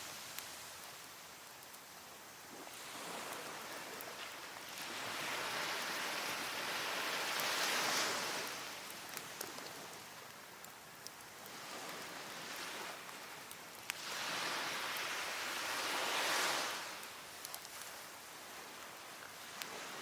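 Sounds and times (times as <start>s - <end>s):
wood fire crackling: 0.0s - 20.0s
wave washing up beach: 2.5s - 10.3s, 11.4s - 20.0s.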